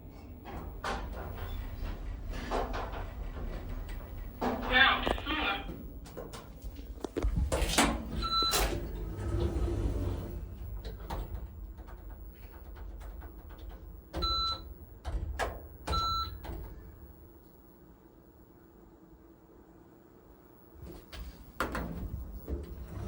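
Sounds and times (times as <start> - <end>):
lift doors sliding open: 0.0 - 17.1, 20.8 - 23.0.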